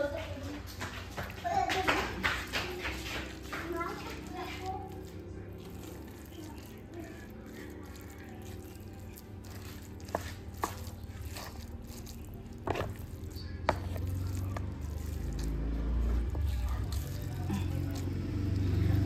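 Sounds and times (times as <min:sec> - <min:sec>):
wet squishing of stirred rice: 0:00.1 - 0:19.0.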